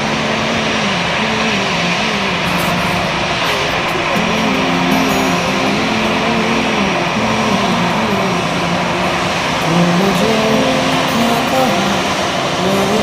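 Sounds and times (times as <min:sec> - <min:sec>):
airliner cabin roar: 0:00.0 - 0:13.0
indistinct wavering pitched sounds: 0:00.0 - 0:13.0.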